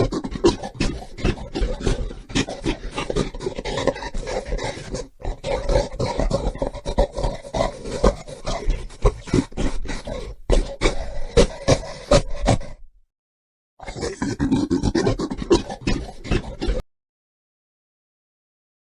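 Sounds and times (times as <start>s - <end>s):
gorilla roaring and grunting: 0.0s - 12.8s, 13.8s - 16.8s.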